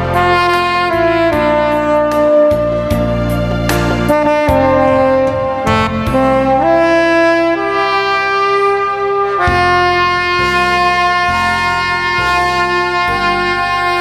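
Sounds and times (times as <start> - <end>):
backing accompaniment with bass: 0.0 - 14.0
saxophone slow melody: 0.0 - 14.0.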